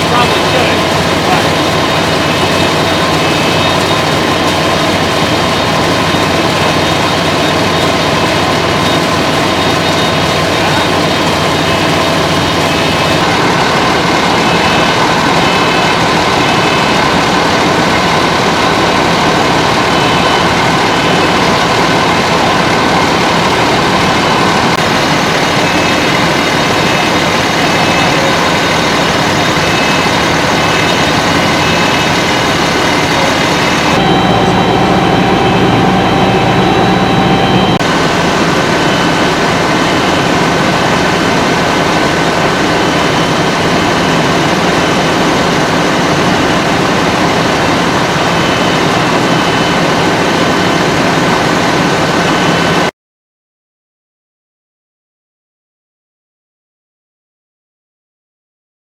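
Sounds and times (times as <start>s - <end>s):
deeper engine note: 0.0s - 51.6s
faint high whine: 0.0s - 52.9s
fire engines running: 0.0s - 52.9s.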